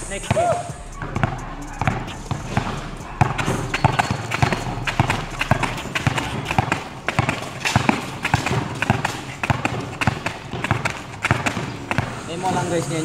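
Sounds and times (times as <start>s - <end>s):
basketball bouncing on concrete: 0.2s - 13.0s
sneakers scuffing: 0.2s - 13.0s.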